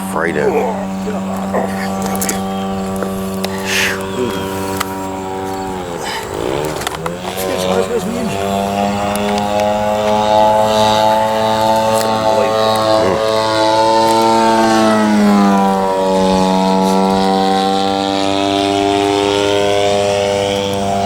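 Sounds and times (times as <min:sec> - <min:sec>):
model airplane engine running: 0:00.0 - 0:21.0.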